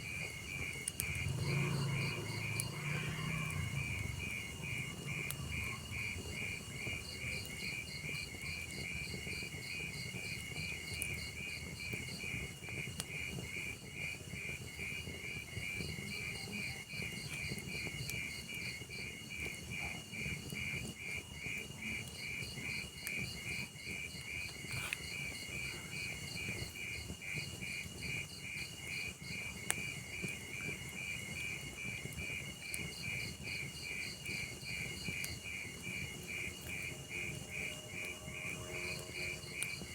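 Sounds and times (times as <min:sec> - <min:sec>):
crickets chirping: 0:00.0 - 0:39.9
log fire rumble: 0:00.0 - 0:39.9.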